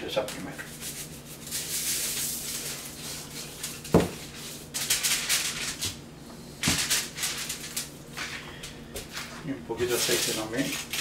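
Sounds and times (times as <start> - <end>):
aluminium foil crinkling: 0.2 - 6.0, 6.6 - 11.0.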